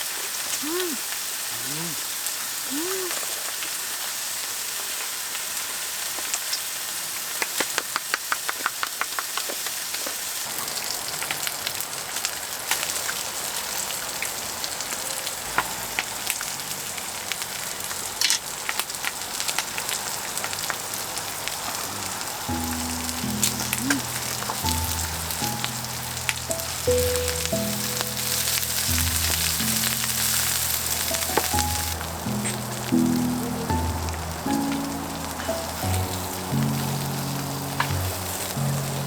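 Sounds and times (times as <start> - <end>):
food sizzling in a pan: 0.0 - 39.0.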